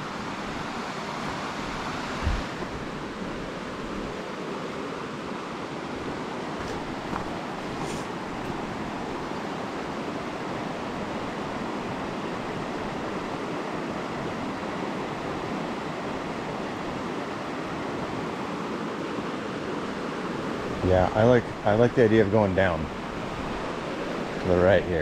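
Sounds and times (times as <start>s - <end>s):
river water rushing over rocks: 0.0s - 21.9s.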